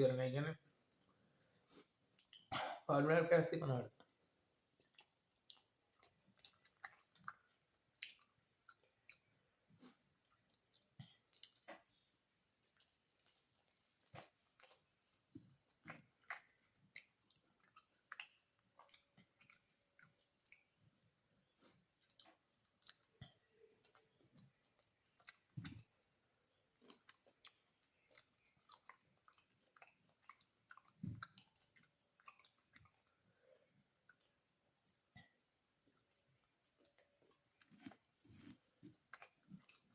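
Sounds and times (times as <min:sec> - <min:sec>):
chewing with wet smacks: 0:00.6 - 0:02.9, 0:03.9 - 0:39.9.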